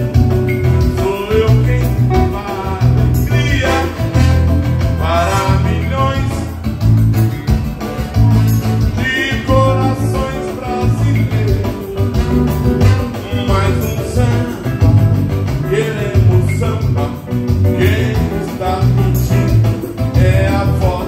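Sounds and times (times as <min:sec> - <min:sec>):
amplified keyboard: 0:00.0 - 0:21.0
heavy bass beat: 0:00.0 - 0:21.0
man singing into a microphone: 0:00.5 - 0:04.4, 0:05.0 - 0:06.6, 0:08.4 - 0:21.0.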